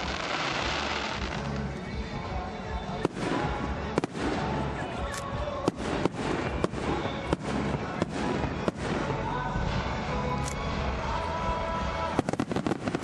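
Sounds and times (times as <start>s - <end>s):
fireworks bangs: 0.0s - 10.1s, 11.9s - 13.0s.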